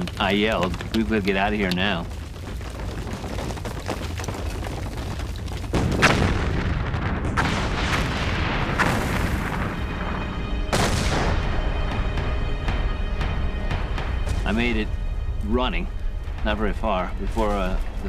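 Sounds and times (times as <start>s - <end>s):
heavy eruption blasts: 0.0s - 15.2s
low volcanic rumble: 0.0s - 18.0s.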